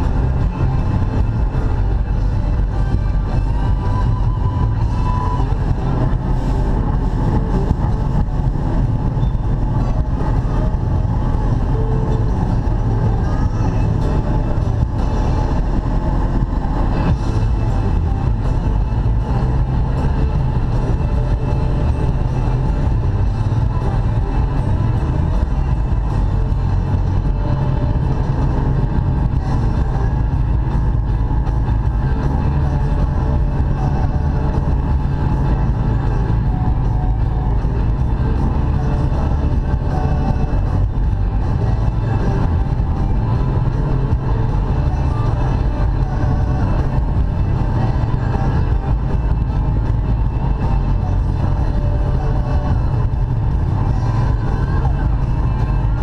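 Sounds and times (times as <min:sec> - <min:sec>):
boat engine rumble: 0:00.0 - 0:56.0
rushing wind and water: 0:00.0 - 0:56.0.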